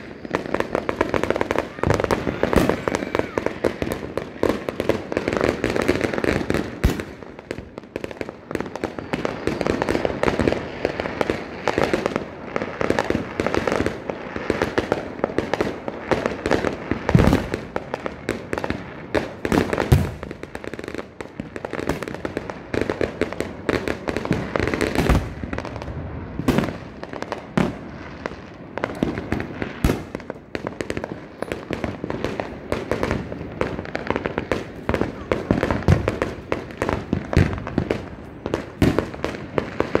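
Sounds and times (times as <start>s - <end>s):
firecrackers crackling and popping: 0.0s - 40.0s
loud firework bangs: 0.0s - 40.0s.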